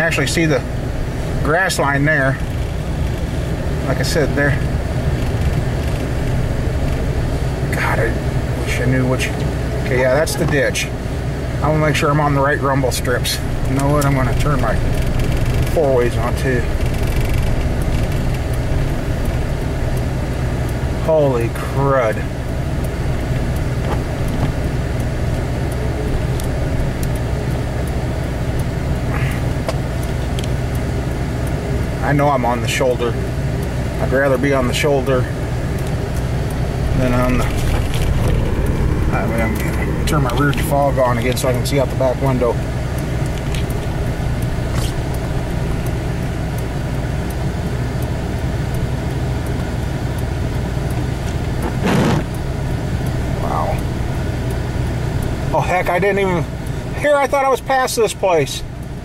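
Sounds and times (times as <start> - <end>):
hazard light flasher ticking: 0.0 - 59.0
vehicle rumble driving through snow: 0.0 - 59.0.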